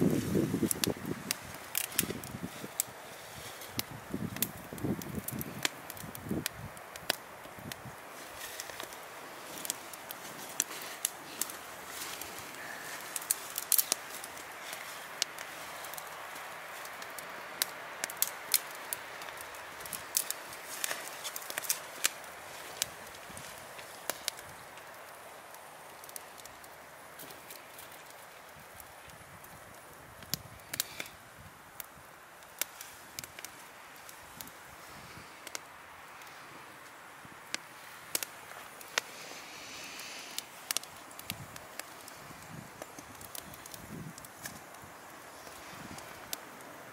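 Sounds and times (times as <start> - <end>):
dry twigs rustling: 0.0 - 31.2, 31.8 - 46.9
sharp fire pops: 0.0 - 31.2, 31.8 - 46.6
steady fire hiss: 0.0 - 46.9
wood fire crackling: 0.0 - 46.9.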